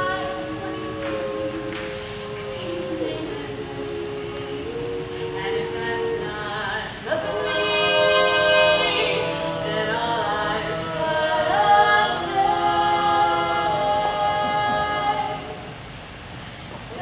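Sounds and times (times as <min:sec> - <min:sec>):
women's quartet singing a cappella: 0:00.0 - 0:16.2, 0:16.8 - 0:17.0.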